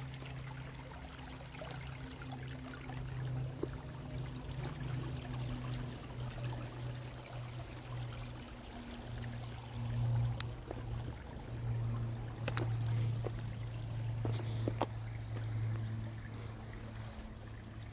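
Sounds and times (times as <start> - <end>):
creek babbling over rocks: 0.0 - 17.9
steady low hum: 0.0 - 17.9.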